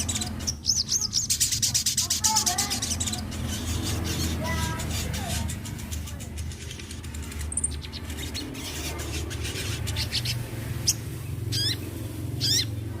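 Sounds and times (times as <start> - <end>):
sunbird chirping and whistling: 0.0 - 12.9.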